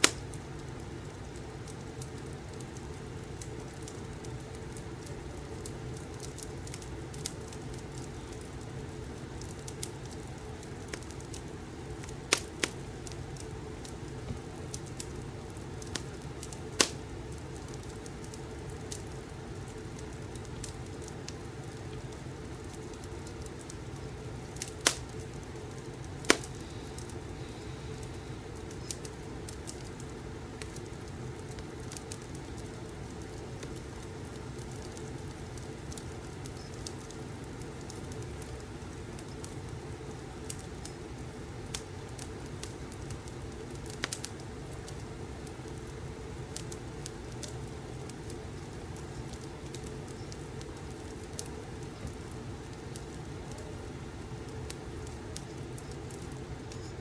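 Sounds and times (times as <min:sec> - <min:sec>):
sharp pops from fire: 0:00.0 - 0:53.8, 0:54.4 - 0:57.0
fireplace crackling: 0:00.0 - 0:57.0.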